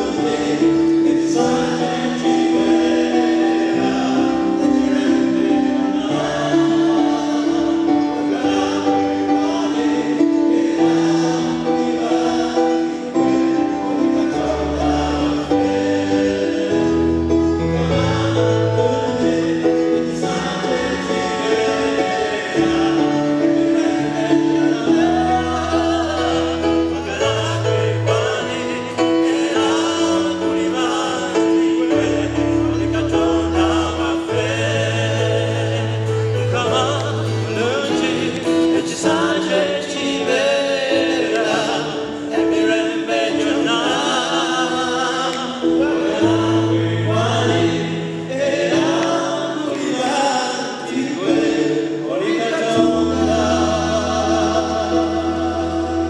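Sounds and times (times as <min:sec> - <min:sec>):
voices singing gospel song: 0:00.0 - 0:56.0.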